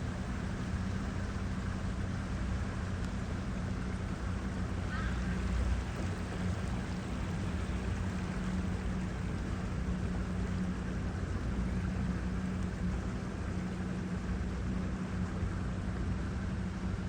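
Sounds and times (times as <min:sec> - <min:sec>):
boat engine humming: 0:00.0 - 0:17.0
water wash: 0:00.0 - 0:17.0.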